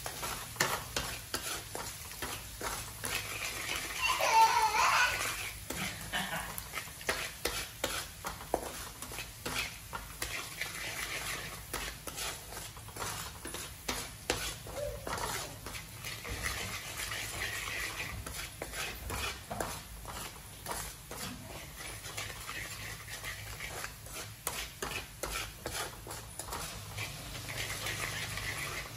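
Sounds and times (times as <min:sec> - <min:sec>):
garlic sizzling in oil: 0:00.0 - 0:28.9
wooden spatula scraping a pan: 0:00.0 - 0:28.9.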